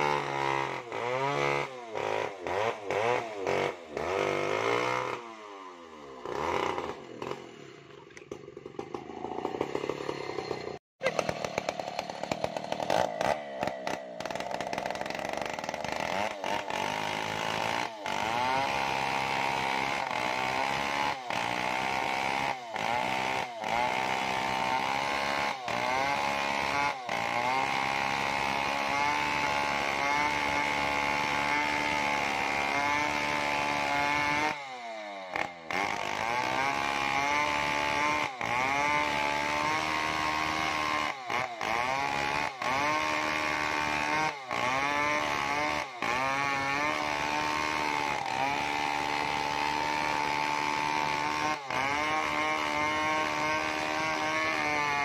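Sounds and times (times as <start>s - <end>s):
chainsaw cutting a log: 0.0s - 55.0s.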